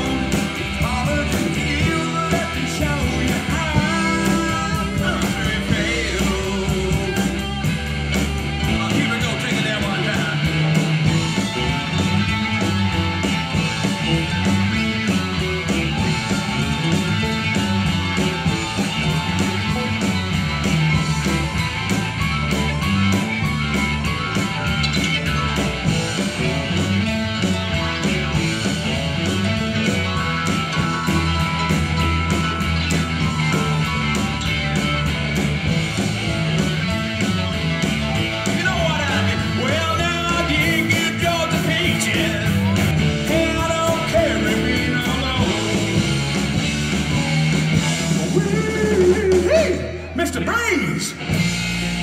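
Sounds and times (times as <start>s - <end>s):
bass guitar: 0.0s - 52.0s
drum kit beat: 0.0s - 52.0s
electric guitars: 0.0s - 52.0s
high sliding guitar notes: 0.0s - 52.0s.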